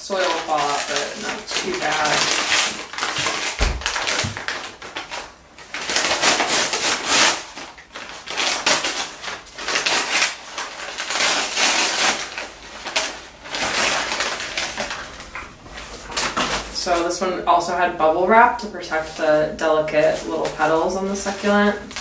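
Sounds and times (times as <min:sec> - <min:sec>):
paper rustling and crinkling: 0:00.0 - 0:17.1, 0:18.9 - 0:22.0.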